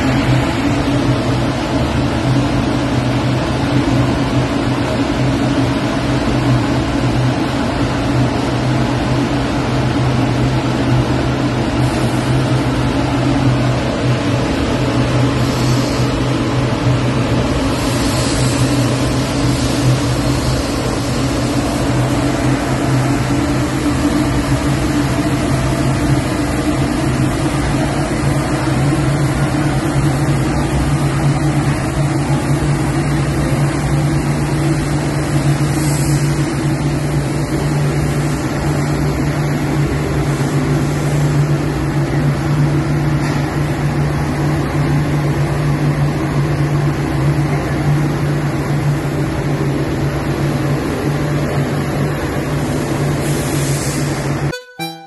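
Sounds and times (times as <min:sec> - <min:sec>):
coffee roaster motors humming: 0:00.0 - 0:54.0.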